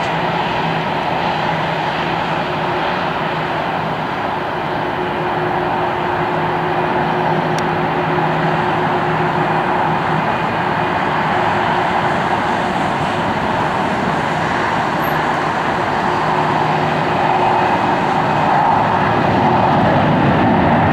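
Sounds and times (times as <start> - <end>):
jet engines idling: 0.0 - 20.9.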